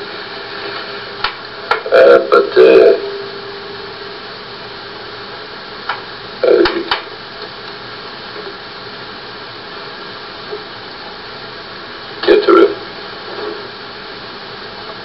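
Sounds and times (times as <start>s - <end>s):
old film soundtrack hiss: 0.0s - 15.0s.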